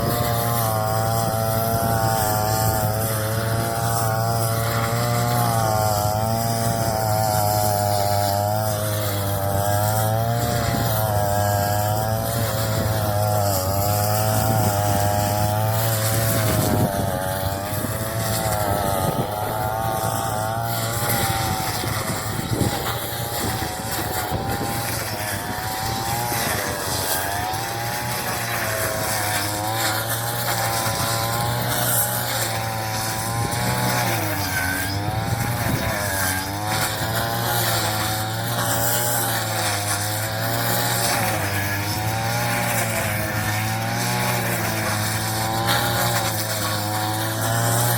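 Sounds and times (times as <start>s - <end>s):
straw chopping machine engine: 0.0s - 47.9s.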